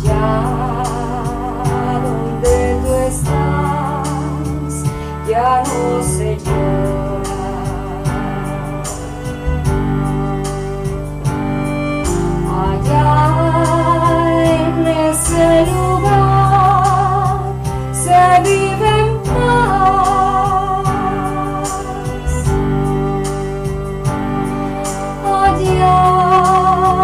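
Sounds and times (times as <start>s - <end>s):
person singing with vibrato: 0.0s - 9.6s, 12.4s - 23.1s, 24.8s - 27.0s
low instrumental accompaniment: 0.0s - 27.0s.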